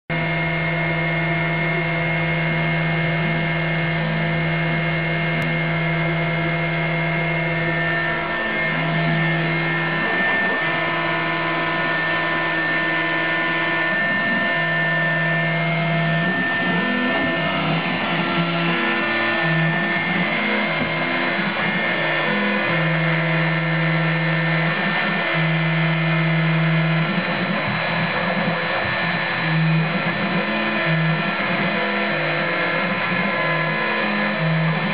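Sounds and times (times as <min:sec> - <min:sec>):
low machine hum: 0:00.1 - 0:34.9
rotary tool whining: 0:00.3 - 0:34.9.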